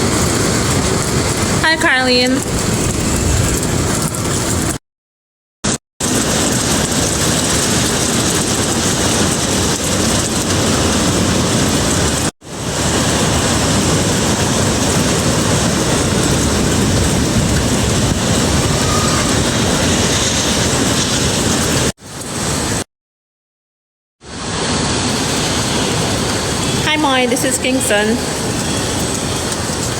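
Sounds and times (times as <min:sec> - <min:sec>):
wind and heavy rain rushing: 0:00.0 - 0:04.8, 0:05.6 - 0:22.9, 0:24.2 - 0:29.9.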